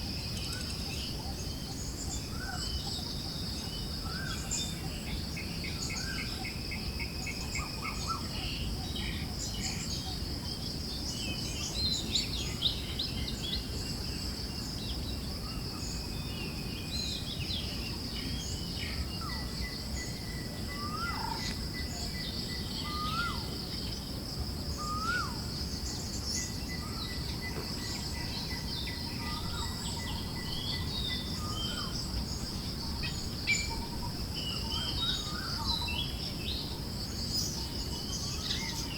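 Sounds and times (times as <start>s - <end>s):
high insect drone: 0.0s - 38.9s
low rush of wind: 0.0s - 38.9s
small birds chirping: 0.2s - 24.1s, 24.7s - 38.9s.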